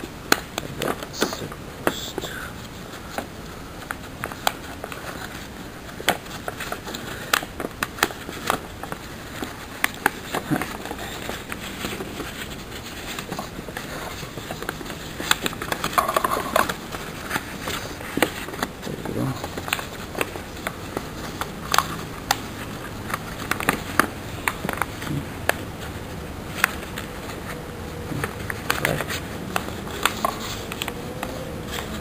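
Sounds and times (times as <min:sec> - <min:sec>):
paper being folded and creased: 0:00.0 - 0:32.0.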